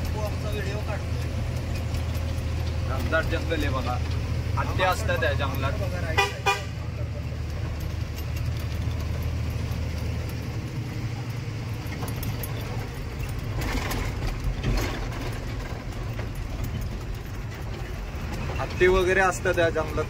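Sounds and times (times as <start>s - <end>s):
cab fittings rattling and clicking: 0.0s - 20.0s
truck engine running: 0.0s - 20.0s.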